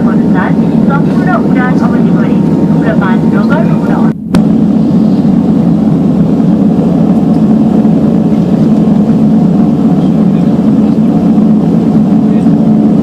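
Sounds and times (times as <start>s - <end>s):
airplane engines droning in cabin: 0.0s - 13.0s.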